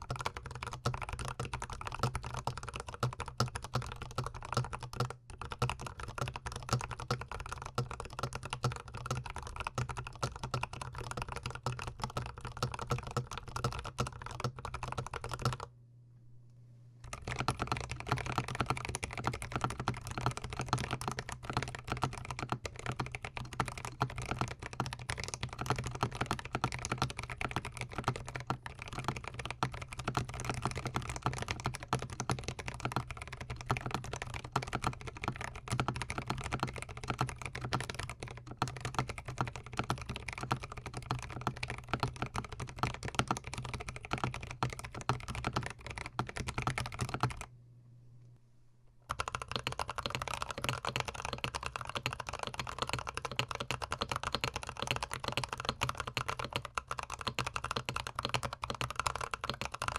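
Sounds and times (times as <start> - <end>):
fast mechanical keyboard typing: 0.0 - 15.7, 17.1 - 47.5, 49.1 - 59.9.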